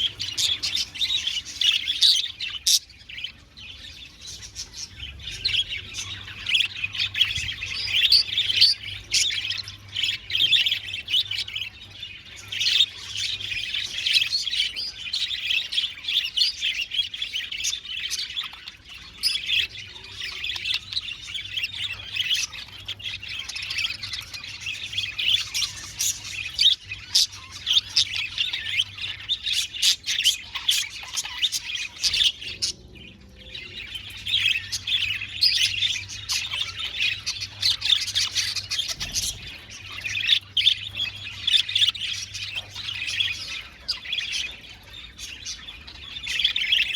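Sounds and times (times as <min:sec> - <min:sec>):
bird squawks: 0:00.0 - 0:46.9
budgerigars chirping and chattering: 0:00.0 - 0:46.9.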